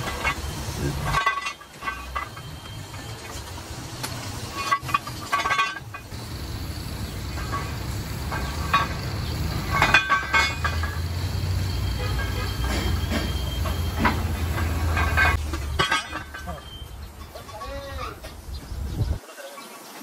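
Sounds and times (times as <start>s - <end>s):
steel track shoes clanking: 0.0s - 18.4s.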